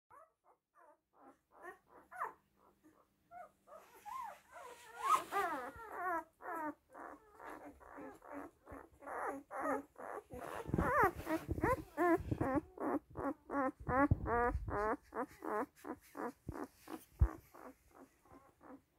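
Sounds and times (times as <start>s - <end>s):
puppies squeaking and whimpering: 0.8s - 18.9s.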